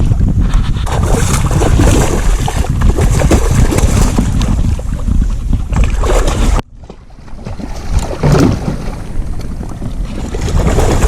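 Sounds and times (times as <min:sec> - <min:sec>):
wind buffeting microphone: 0:00.0 - 0:06.6, 0:07.3 - 0:11.0.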